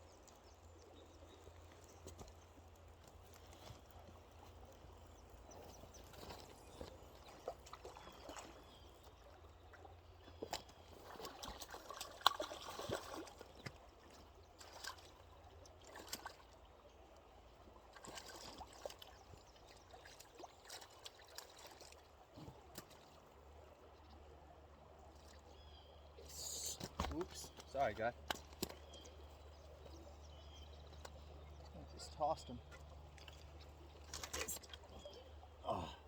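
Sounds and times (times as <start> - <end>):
river water trickling and splashing: 0.0 - 36.0.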